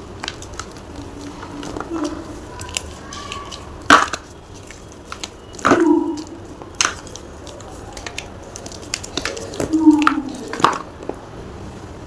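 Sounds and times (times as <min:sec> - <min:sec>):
chalk block crunching: 0:00.0 - 0:11.2
small crackles: 0:00.0 - 0:11.2.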